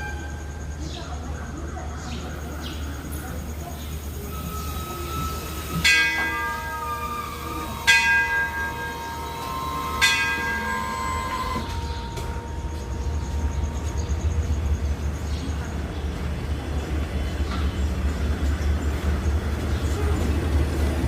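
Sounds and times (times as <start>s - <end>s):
diesel train idling rumble: 0.0s - 21.0s.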